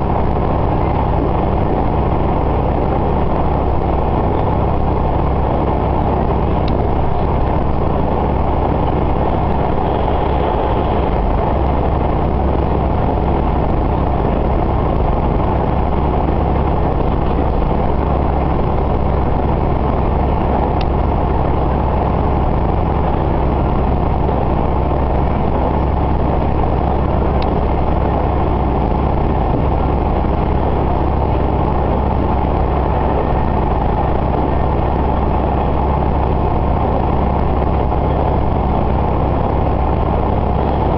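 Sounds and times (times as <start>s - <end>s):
railcar engine drone: 0.0s - 40.9s
wheel and rail noise: 0.0s - 40.9s.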